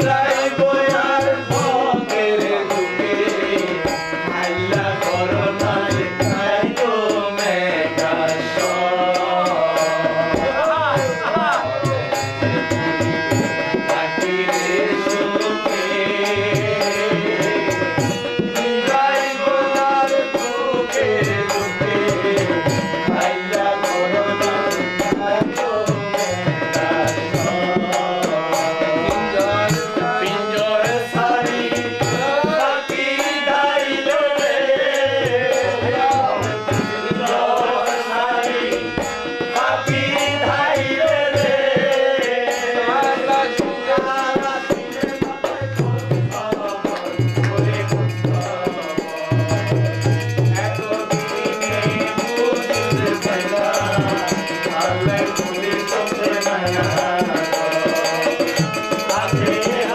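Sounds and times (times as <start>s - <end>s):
harmonium melody: 0.0s - 59.9s
man singing: 0.0s - 59.9s.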